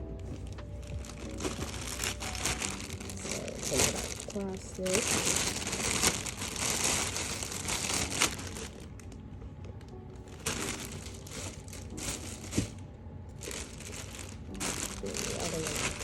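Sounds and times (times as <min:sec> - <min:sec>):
plastic bag crinkling: 0:00.1 - 0:16.0.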